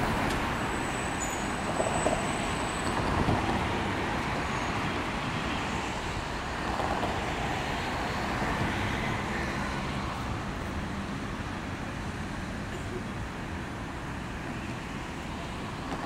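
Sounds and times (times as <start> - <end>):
road traffic rumble and hiss: 0.0 - 16.0.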